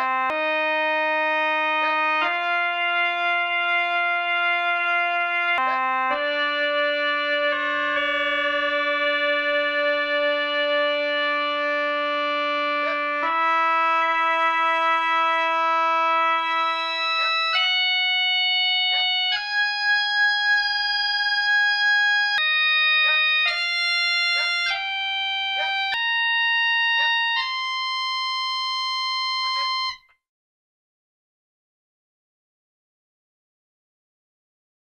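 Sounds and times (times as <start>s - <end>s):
pipe organ held notes: 0.0s - 30.0s.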